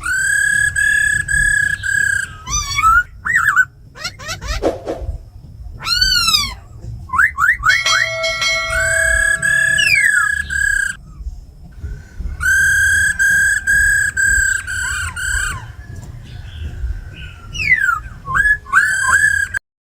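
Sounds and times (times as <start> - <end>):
laughingthrush whistled song: 0.0 - 19.6.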